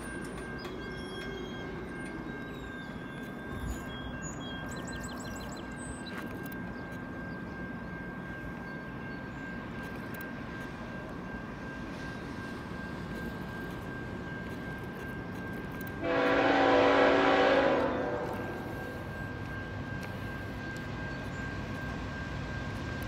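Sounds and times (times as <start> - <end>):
distant train rumble: 0.0 - 23.0.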